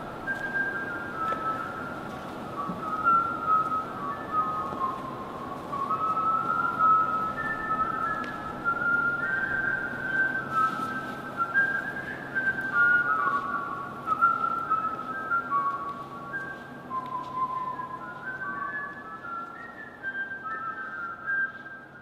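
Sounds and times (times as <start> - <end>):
person whistling a slow melody: 0.0 - 22.0.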